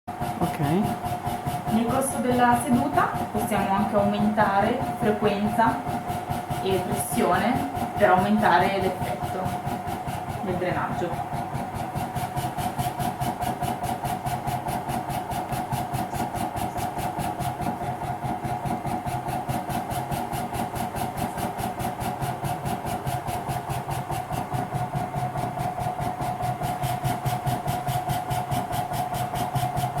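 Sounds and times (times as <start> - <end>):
pulsing blower hum: 0.1 - 30.0.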